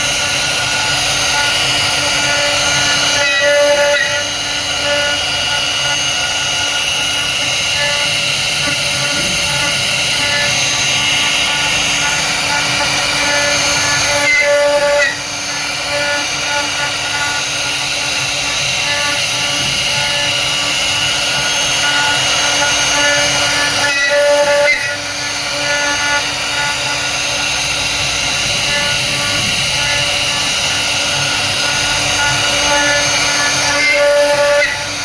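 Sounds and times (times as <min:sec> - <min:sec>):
router spindle whining: 0:00.0 - 0:35.0.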